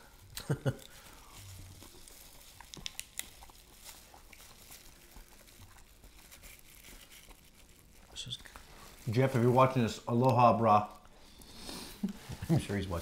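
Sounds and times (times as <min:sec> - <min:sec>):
seafood shells clicking and cracking: 0:00.0 - 0:11.2
plastic gloves crinkling: 0:00.0 - 0:13.0.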